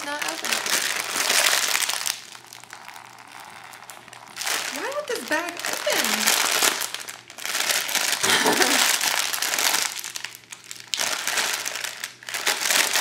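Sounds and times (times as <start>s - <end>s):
candy bag crinkling: 0.0s - 13.0s.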